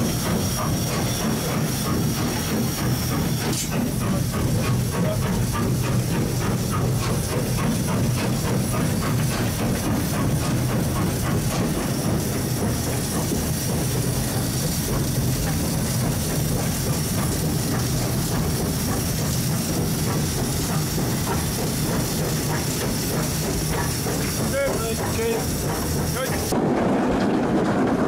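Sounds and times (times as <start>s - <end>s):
steam locomotive rumble: 0.0s - 28.0s
wheels clicking over rail joints: 0.0s - 28.0s.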